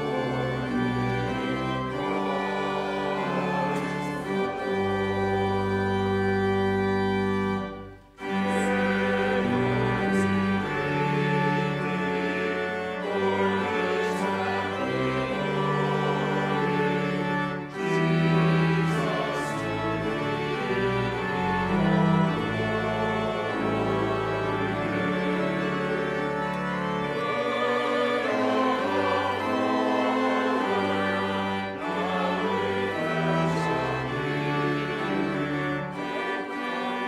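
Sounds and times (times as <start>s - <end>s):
pipe organ playing hymn chords: 0.0s - 37.0s.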